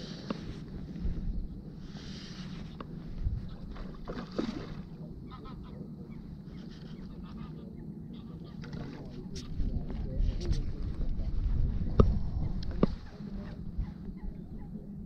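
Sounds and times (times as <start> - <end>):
wind buffeting microphone: 0.0 - 8.4, 9.0 - 15.0.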